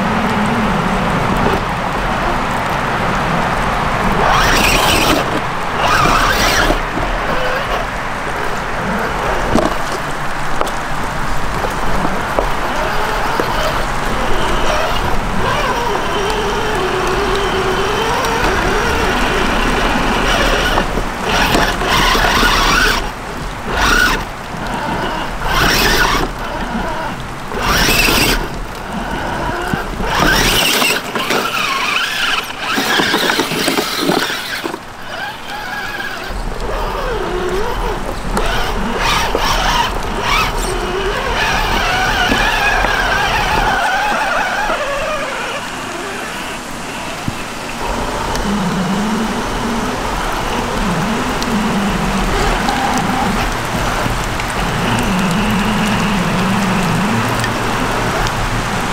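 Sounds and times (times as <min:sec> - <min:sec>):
electric motor and gearbox whining: 0:03.5 - 0:58.9.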